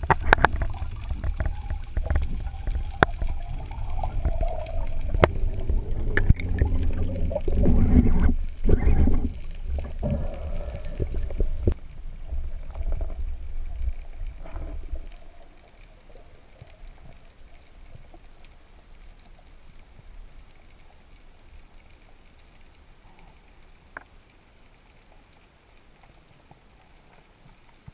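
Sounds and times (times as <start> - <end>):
faint underwater hiss: 0.0 - 27.7
underwater water rumble: 0.0 - 27.9.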